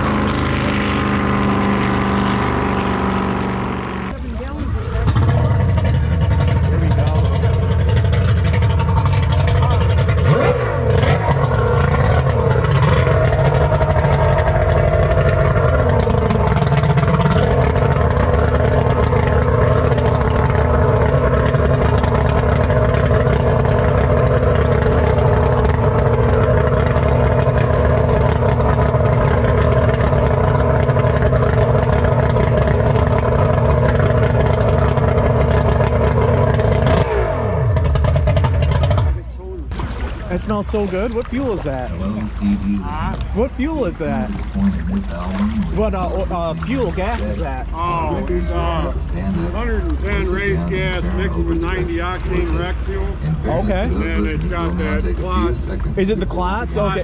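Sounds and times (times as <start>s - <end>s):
outboard boat engine idling: 0.0s - 57.0s.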